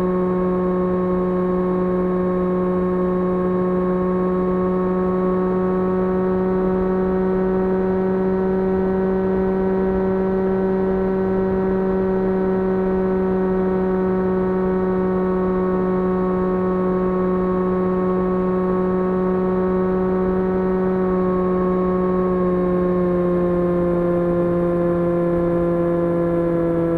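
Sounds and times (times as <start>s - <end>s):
model plane motor whine: 0.0s - 26.9s.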